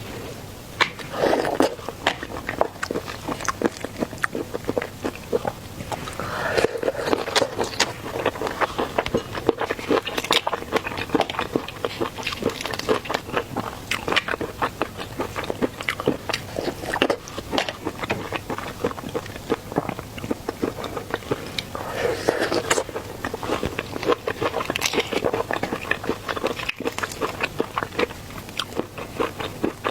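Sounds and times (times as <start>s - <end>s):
chewing: 0.8s - 29.9s.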